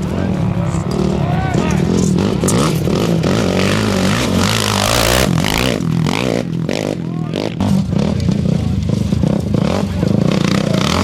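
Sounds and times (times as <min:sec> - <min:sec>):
loud rush of noise: 0:00.0 - 0:11.0
motorcycle engine revving: 0:00.0 - 0:11.0.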